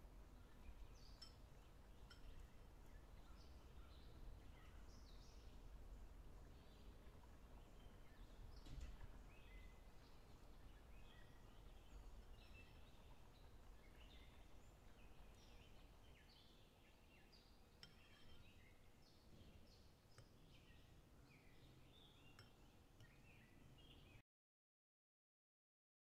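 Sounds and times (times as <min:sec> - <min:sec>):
small birds chirping faintly: 0:00.0 - 0:24.2.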